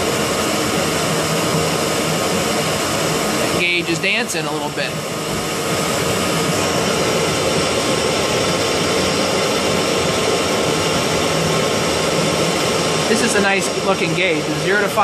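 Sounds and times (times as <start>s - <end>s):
boiler burner rushing: 0.0s - 15.0s.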